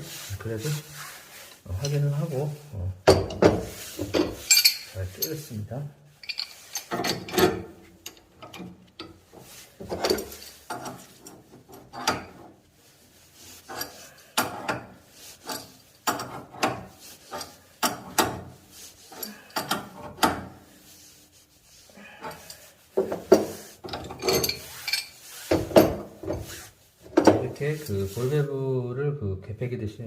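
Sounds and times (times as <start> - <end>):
wrench scraping and clicking on fittings: 0.1 - 2.3, 3.0 - 28.3.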